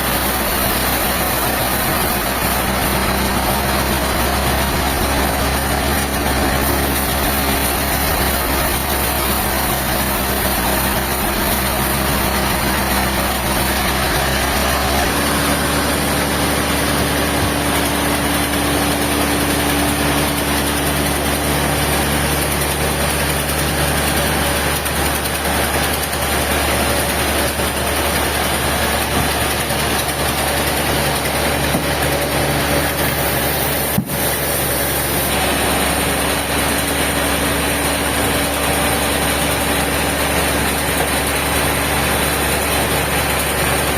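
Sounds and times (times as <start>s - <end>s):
heavy machinery engine running: 0.0s - 43.9s.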